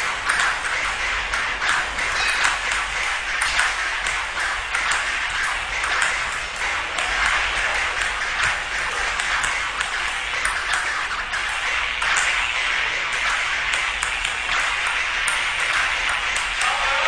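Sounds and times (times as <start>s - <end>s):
ping pong ball clicking on paddles: 0.0s - 17.0s.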